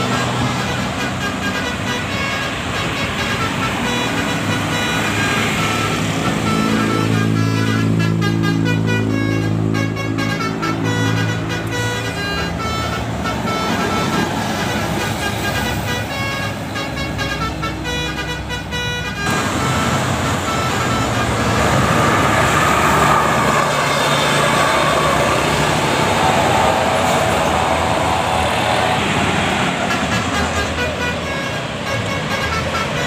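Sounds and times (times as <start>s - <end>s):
multi-tone bus horn tune: 0.0s - 33.0s
road traffic: 0.0s - 33.0s.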